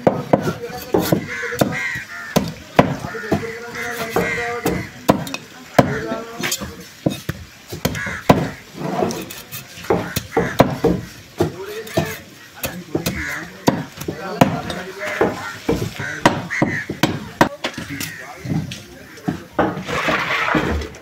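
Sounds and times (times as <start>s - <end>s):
cleaver chopping on wooden block: 0.0s - 18.7s.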